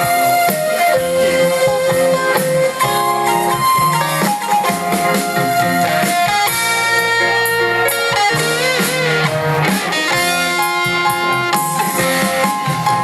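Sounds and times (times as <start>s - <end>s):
band backing: 0.0s - 13.0s
electric guitar lead: 0.0s - 13.0s.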